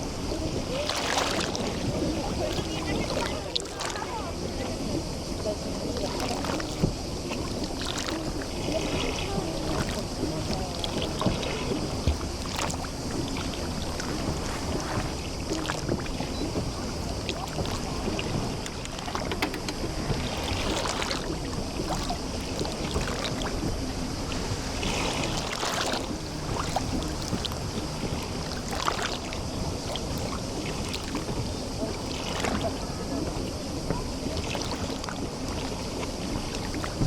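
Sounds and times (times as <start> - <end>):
small waves lapping: 0.0 - 37.0
water trickling clicks: 0.0 - 37.0.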